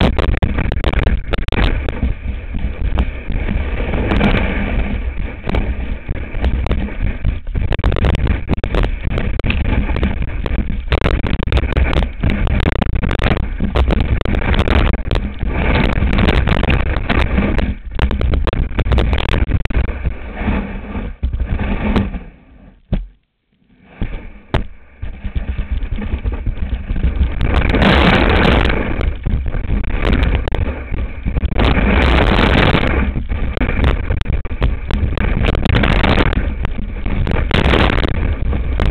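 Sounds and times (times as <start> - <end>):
skis scraping over snow: 0.0 - 22.8, 23.8 - 38.9
wind buffeting microphone: 0.0 - 23.2, 23.9 - 38.9.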